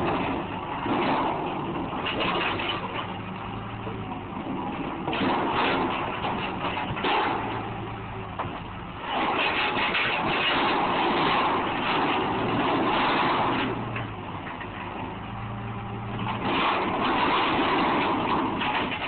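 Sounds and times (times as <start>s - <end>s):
excavator engine under load: 0.0s - 19.0s.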